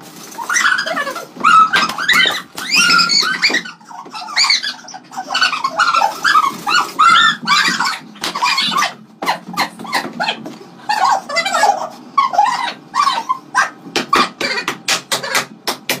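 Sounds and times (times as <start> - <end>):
rodent squealing: 0.2 - 15.5.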